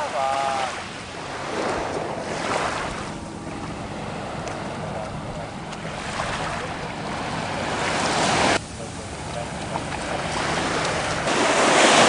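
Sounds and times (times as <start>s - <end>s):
ocean surf washing onto beach: 0.0s - 12.0s
wind buffeting microphone: 0.0s - 12.0s.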